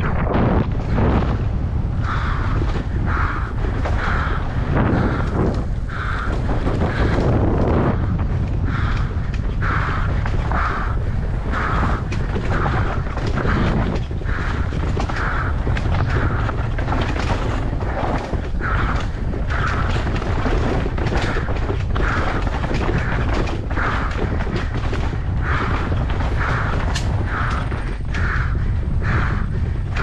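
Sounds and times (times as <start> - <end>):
bike rattling and knocking: 0.0 - 30.0
rushing noise: 0.0 - 30.0
wind buffeting microphone: 0.0 - 30.0.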